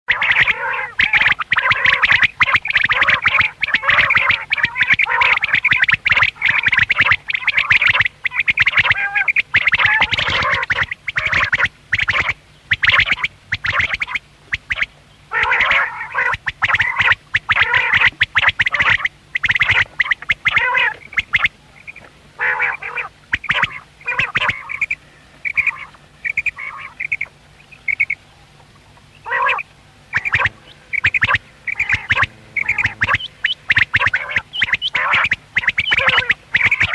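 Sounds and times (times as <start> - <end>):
quails calling: 0.1 - 36.9.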